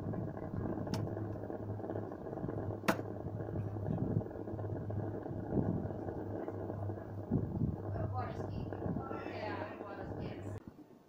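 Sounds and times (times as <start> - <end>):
pellet burner rushing: 0.0 - 10.6
low hum: 0.0 - 10.7.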